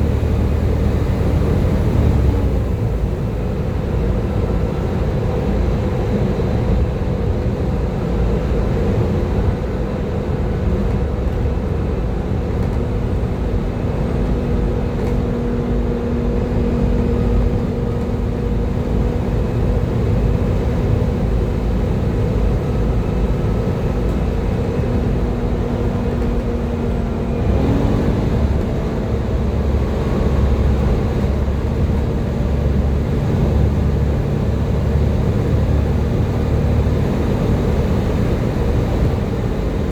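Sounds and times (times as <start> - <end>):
bus engine rumbling with whine: 0.0 - 39.9.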